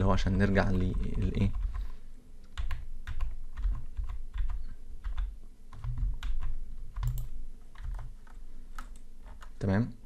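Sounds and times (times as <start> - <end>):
keyboard typing: 0.4 - 9.6.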